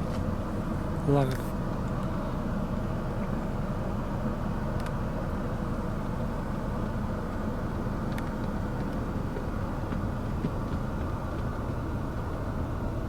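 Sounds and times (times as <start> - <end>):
car engine rumble and hiss: 0.0 - 13.0.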